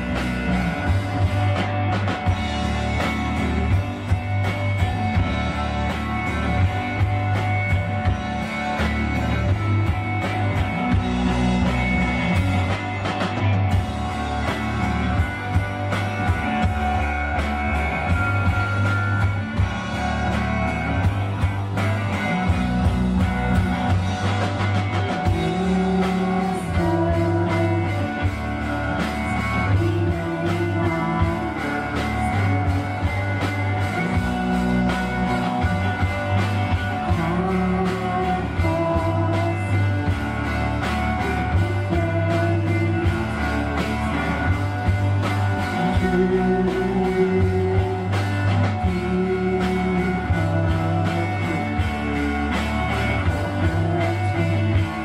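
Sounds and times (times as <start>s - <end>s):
bass line: 0.0s - 55.0s
live rock band playing: 0.0s - 55.0s.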